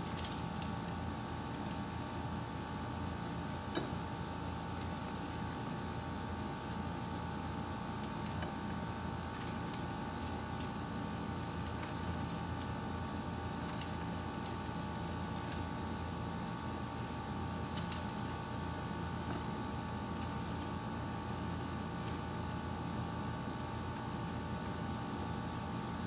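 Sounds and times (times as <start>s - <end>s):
machine hum with whine: 0.0s - 26.0s.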